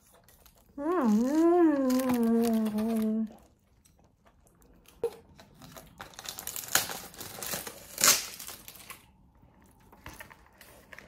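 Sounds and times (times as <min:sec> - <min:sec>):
plastic wrapper crinkling: 0:00.0 - 0:04.0, 0:04.9 - 0:11.0.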